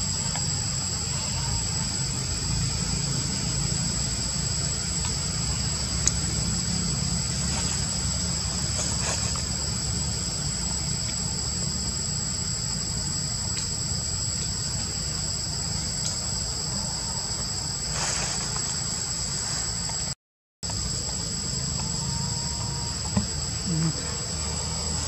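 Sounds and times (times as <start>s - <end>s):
insect chorus droning: 0.0s - 25.0s.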